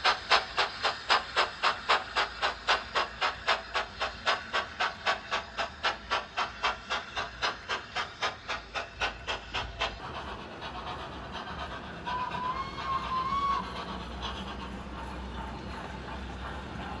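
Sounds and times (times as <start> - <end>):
model steam exhaust beats: 0.0 - 17.0
steam locomotive hiss: 0.0 - 17.0.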